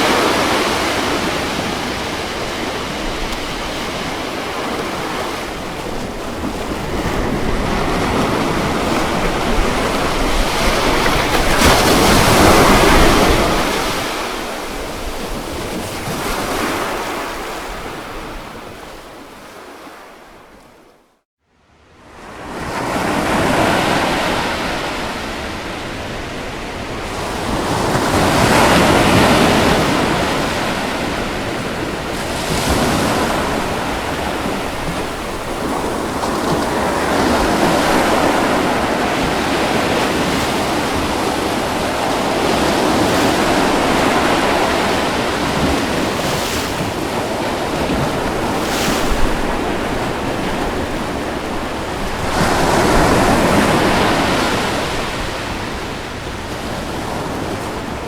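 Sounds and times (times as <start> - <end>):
ocean waves breaking: 0.0 - 20.9, 22.0 - 58.0.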